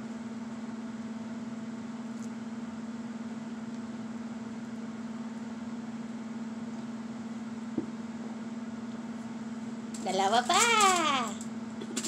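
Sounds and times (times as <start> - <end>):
steady low electrical hum: 0.0 - 12.0.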